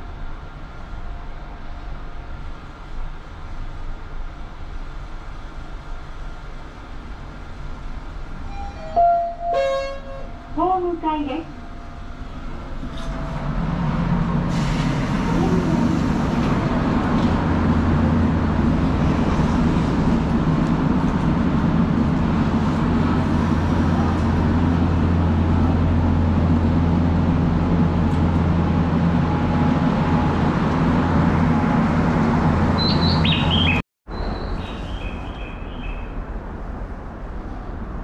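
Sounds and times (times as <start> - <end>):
electric train hum and rumble: 0.0 - 38.0.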